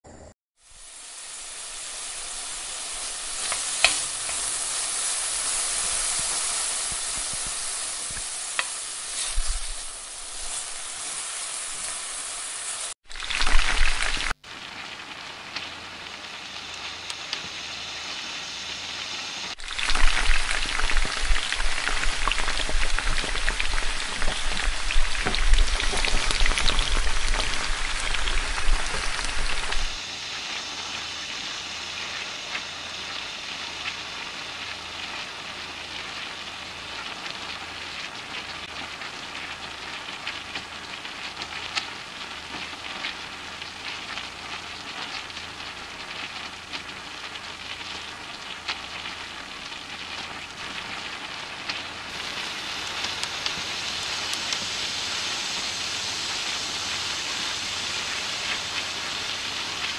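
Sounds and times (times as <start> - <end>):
oil sizzling: 0.1 - 59.9
onions frying crackling: 0.1 - 59.9.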